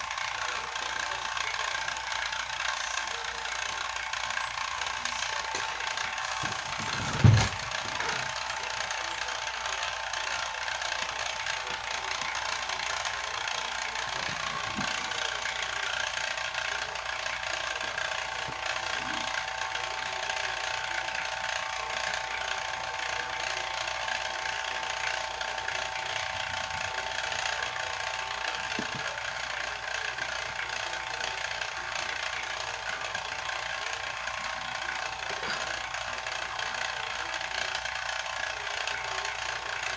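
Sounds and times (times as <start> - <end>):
vacuum pump humming: 0.0 - 39.9.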